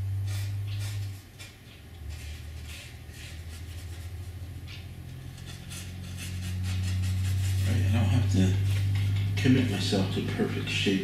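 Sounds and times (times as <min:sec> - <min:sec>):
steady low hum: 0:00.0 - 0:11.0
paintbrush scratching on canvas: 0:00.2 - 0:09.3.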